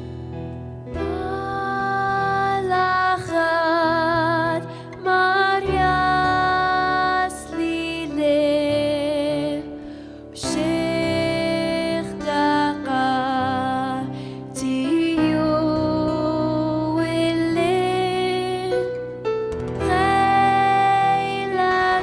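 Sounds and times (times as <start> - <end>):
soft instrumental accompaniment: 0.0 - 22.0
woman singing a hymn: 1.0 - 19.0, 19.8 - 22.0.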